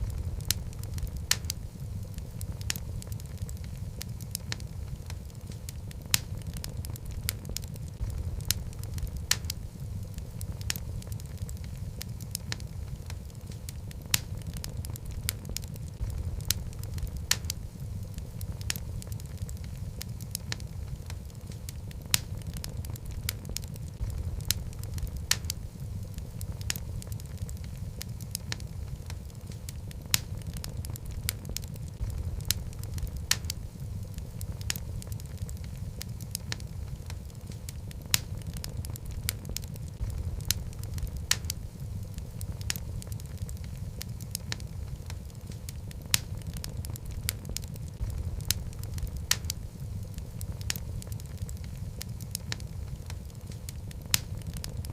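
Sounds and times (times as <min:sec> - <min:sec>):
fire crackling and popping: 0:00.0 - 0:54.9
fire rumbling: 0:00.0 - 0:54.9.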